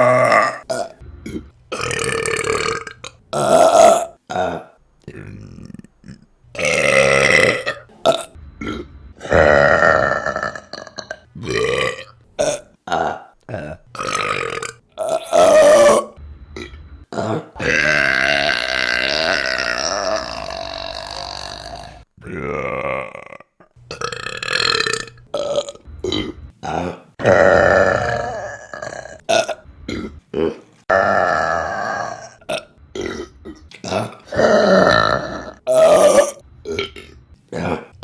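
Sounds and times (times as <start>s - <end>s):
women burping: 0.0s - 5.3s, 6.6s - 38.0s.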